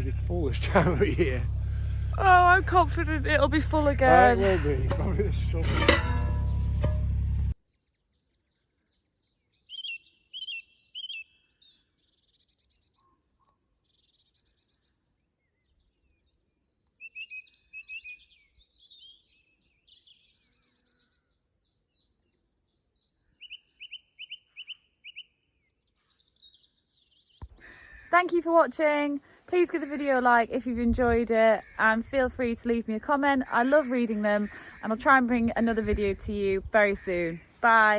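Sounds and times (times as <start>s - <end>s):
songbirds chirping and trilling: 4.4s - 37.9s.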